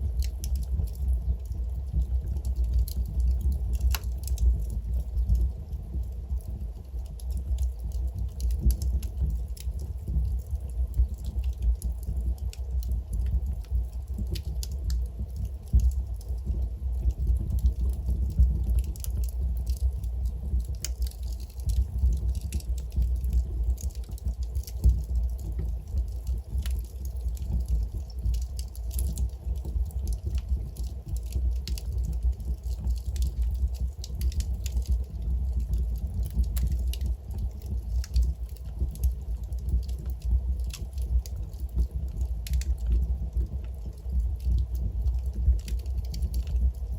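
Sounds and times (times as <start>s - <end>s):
burning logs rumbling: 0.0s - 46.9s
wood fire crackling: 0.0s - 46.9s.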